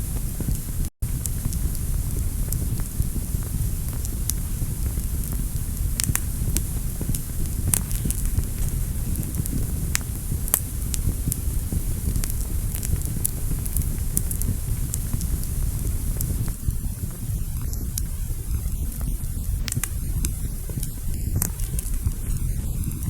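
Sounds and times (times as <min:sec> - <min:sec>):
fire crackling and popping: 0:00.0 - 0:23.0
fire flames rumbling and hissing: 0:00.0 - 0:23.0.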